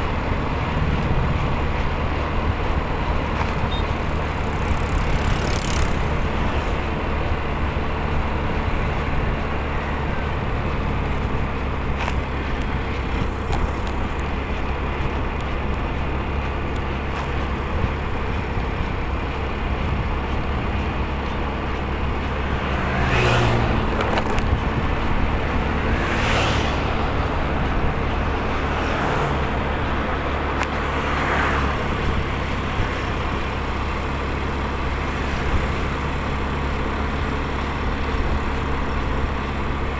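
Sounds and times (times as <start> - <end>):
motorcycle rumble: 0.0 - 39.9
vehicles passing: 0.0 - 39.9.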